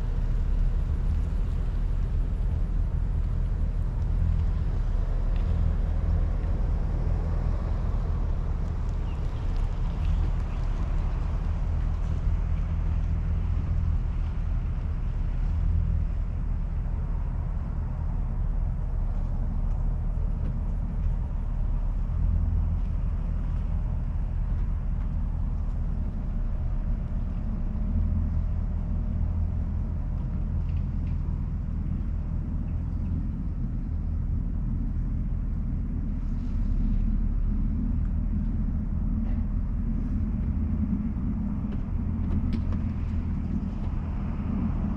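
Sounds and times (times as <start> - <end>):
engine running at low speed: 0.0 - 44.9.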